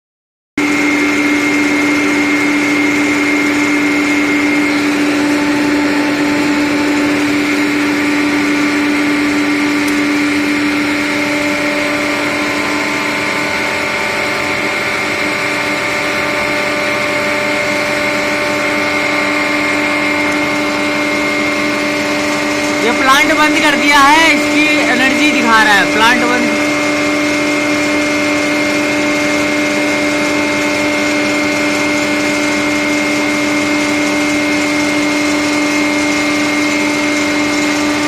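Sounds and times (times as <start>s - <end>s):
high-pitched whine: 0.6s - 32.3s
machinery low hum: 0.7s - 31.8s.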